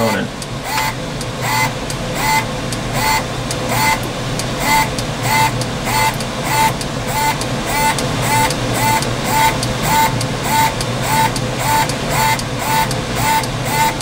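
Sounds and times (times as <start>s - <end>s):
machine whir ending in tone: 0.0s - 4.0s, 4.6s - 14.0s.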